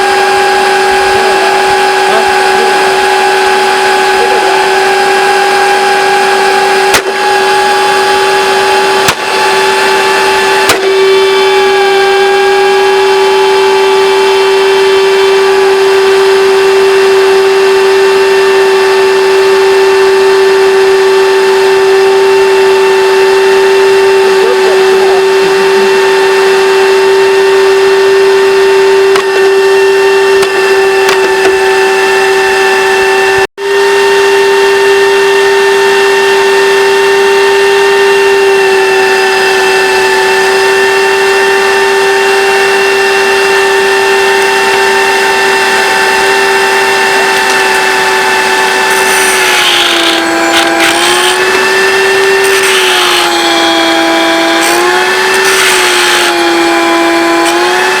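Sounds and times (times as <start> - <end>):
vacuum cleaner motor whining: 0.0 - 58.0.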